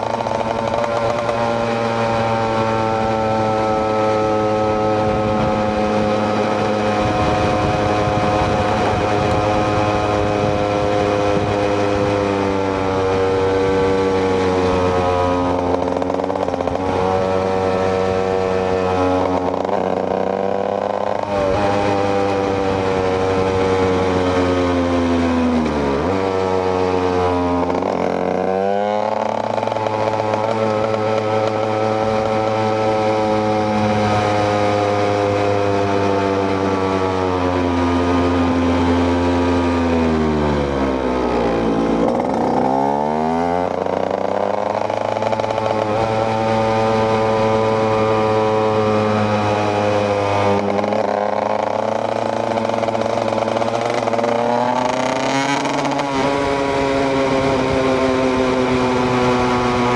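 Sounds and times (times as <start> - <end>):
two-stroke motorcycle engine running: 0.0 - 59.9.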